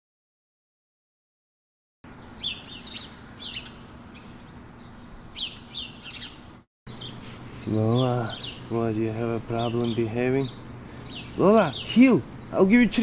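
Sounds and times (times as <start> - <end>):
songbirds chirping: 2.1 - 13.0.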